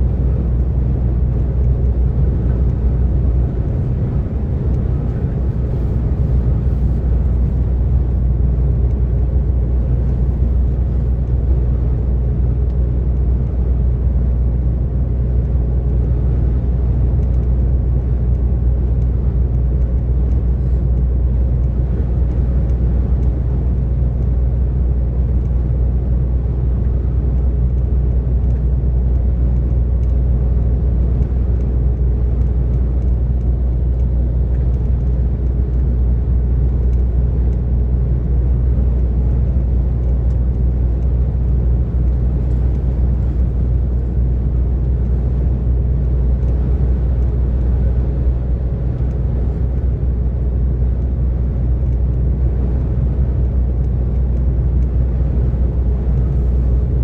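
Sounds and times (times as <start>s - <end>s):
diesel engine droning: 0.0s - 57.0s
road and tyre noise: 0.0s - 57.0s.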